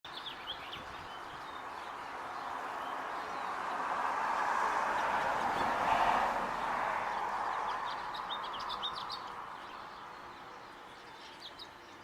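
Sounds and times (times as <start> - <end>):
songbird chirping: 0.1 - 12.0.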